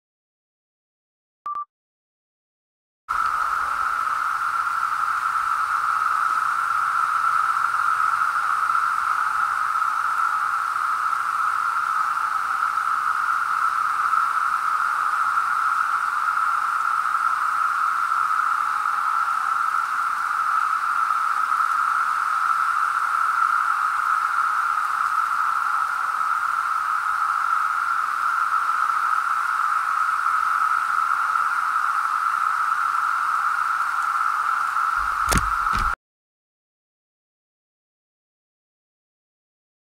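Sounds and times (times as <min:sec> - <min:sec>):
cicadas droning: 0:03.1 - 0:36.0.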